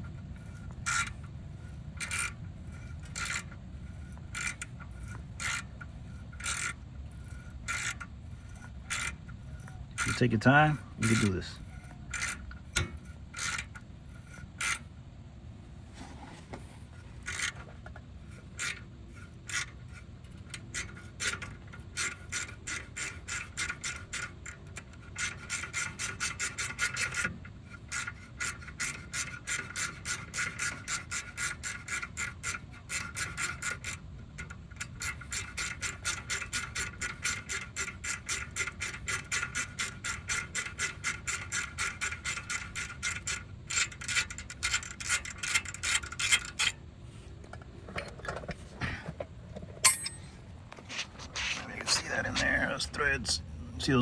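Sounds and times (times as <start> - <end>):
ratchet clicking: 0.3 - 14.9, 17.2 - 46.8.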